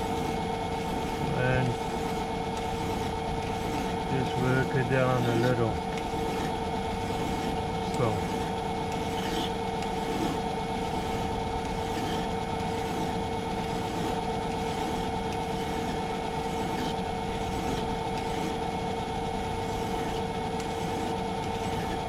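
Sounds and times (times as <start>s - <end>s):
hand file on spinning metal: 0.0s - 22.0s
metal lathe humming: 0.0s - 22.0s.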